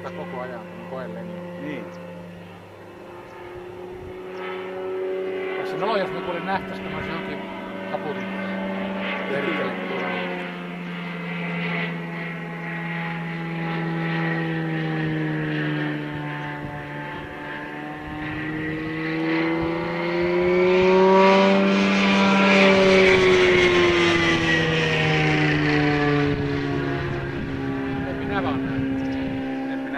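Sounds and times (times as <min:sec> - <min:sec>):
biplane propeller engine drone: 0:00.0 - 0:29.9.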